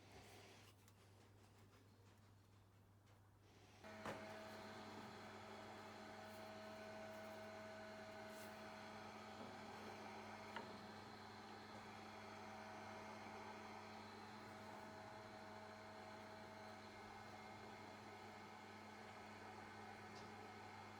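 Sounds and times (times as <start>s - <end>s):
low mains hum: 0.0s - 20.9s.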